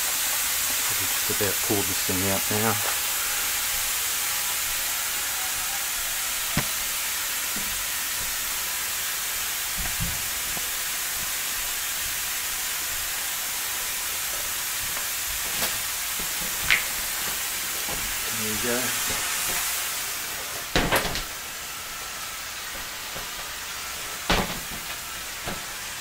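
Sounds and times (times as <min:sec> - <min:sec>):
air hissing from ball valve: 0:00.0 - 0:26.0.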